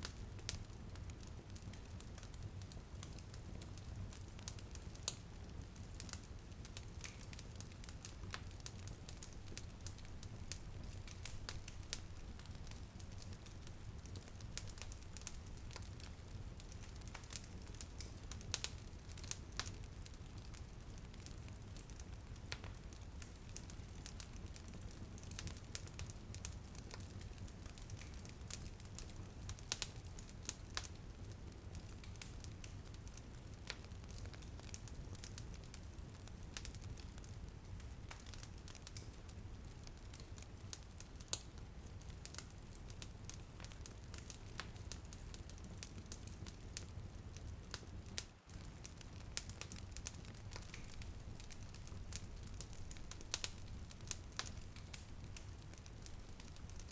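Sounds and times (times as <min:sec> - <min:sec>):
rain pattering on a window: 0:00.0 - 0:56.9
wood fire crackling: 0:00.0 - 0:56.9.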